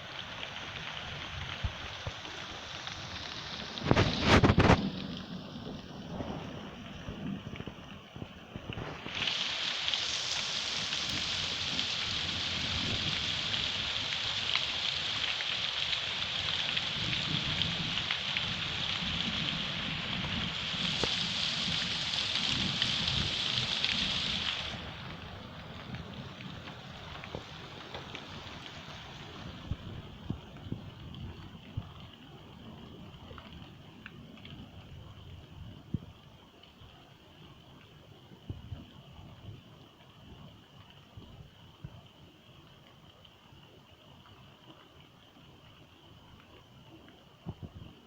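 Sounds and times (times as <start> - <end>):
heavy rain on surfaces: 0.0 - 48.0.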